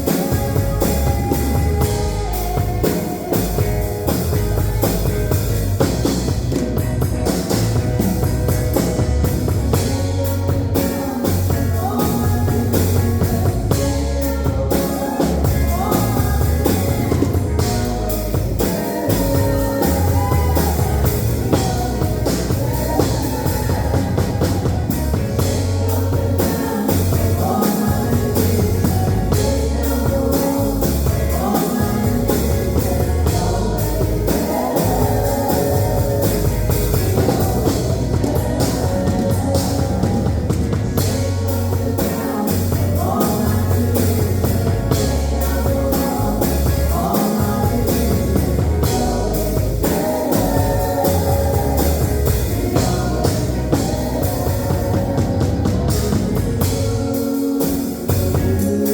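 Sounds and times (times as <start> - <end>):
drum kit: 0.0 - 58.9
guitar: 0.0 - 58.9
person singing: 0.0 - 58.9.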